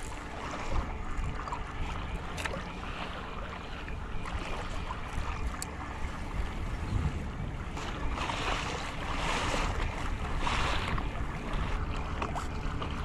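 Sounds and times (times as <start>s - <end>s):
water sloshing along kayak hull: 0.0s - 13.0s
wind on microphone: 0.0s - 13.0s.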